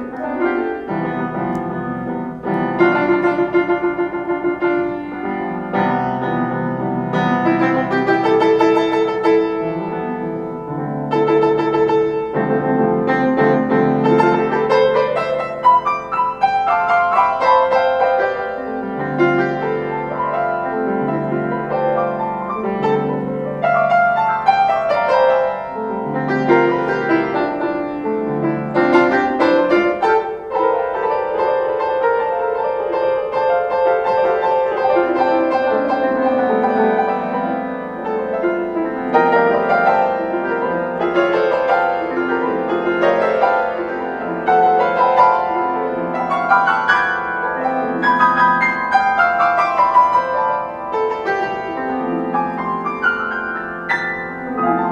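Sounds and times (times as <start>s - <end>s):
piano music: 0.0s - 54.9s.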